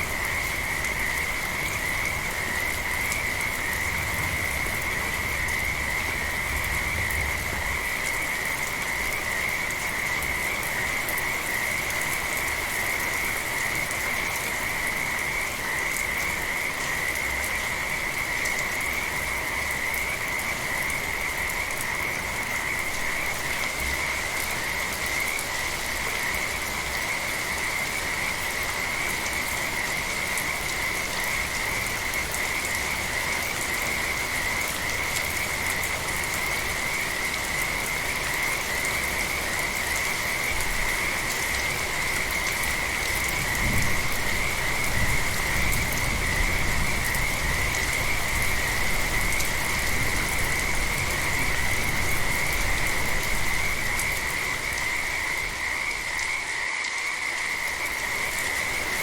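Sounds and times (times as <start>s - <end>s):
frogs calling: 0.0s - 59.0s
light rain hissing: 0.0s - 59.0s.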